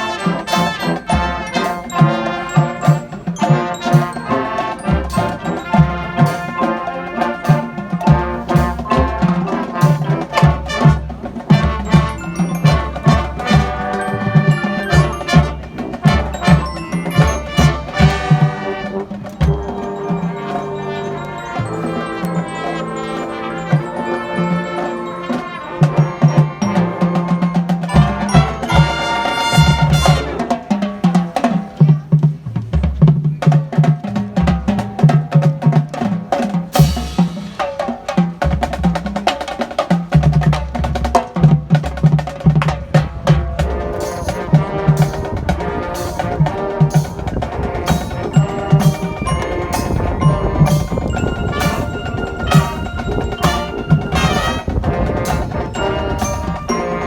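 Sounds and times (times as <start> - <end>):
drumline hits: 0.0 - 57.0
mallet percussion: 0.0 - 57.0
marching band playing: 0.0 - 57.0.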